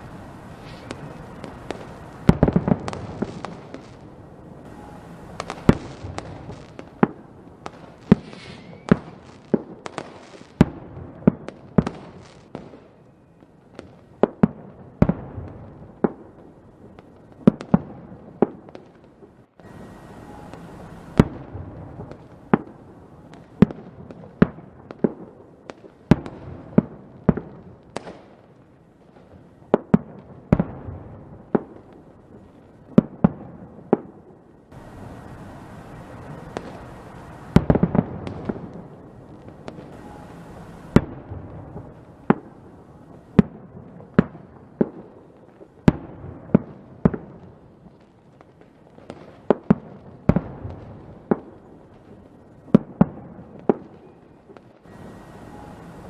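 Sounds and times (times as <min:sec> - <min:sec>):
fireworks bangs: 0:00.0 - 0:56.0
fireworks crackle: 0:00.0 - 0:56.0.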